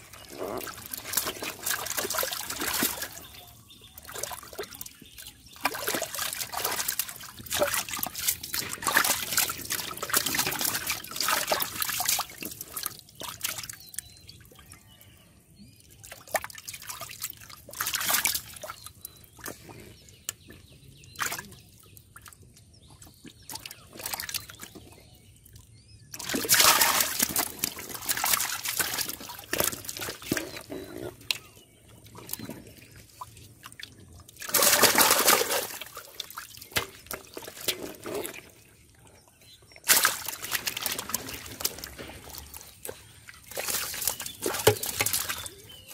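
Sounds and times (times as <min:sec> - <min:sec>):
muddy water sloshing and splashing: 0:00.0 - 0:45.9.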